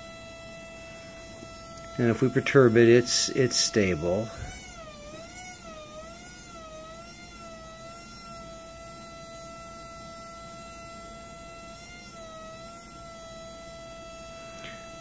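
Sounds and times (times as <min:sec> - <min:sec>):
drone propeller whine: 0:00.0 - 0:15.0.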